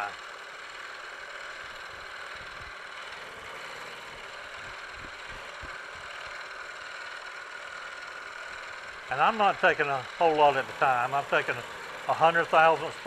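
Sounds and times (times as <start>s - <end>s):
milling machine humming with whine: 0.0s - 13.0s.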